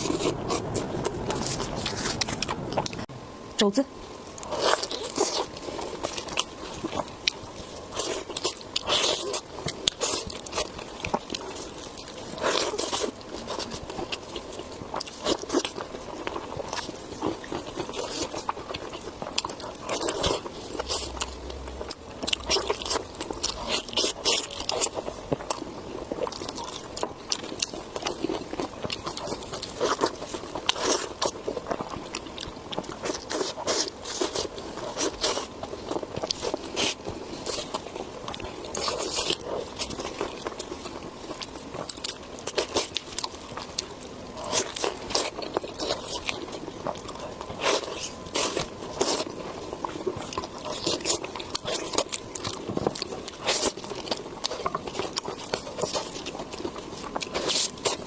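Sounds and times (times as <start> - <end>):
crunchy bites and wet chewing: 4.3 - 58.0.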